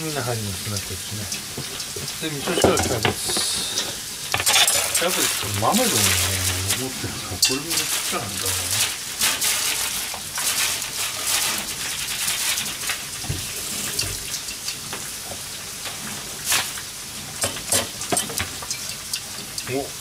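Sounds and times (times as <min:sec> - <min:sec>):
sausages sizzling in oil: 0:00.0 - 0:20.0
crackles and pops: 0:03.2 - 0:19.8.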